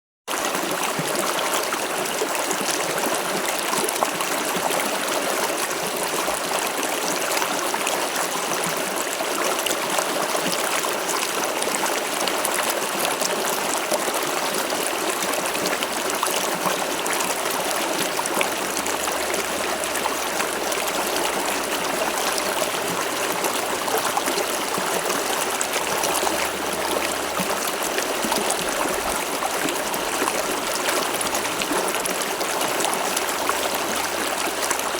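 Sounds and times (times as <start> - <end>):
river flowing over stones: 0.3 - 34.9.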